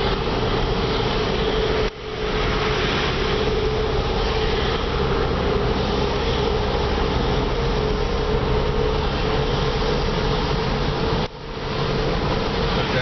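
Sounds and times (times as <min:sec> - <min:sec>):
car heater blower rushing: 0:00.0 - 0:13.0.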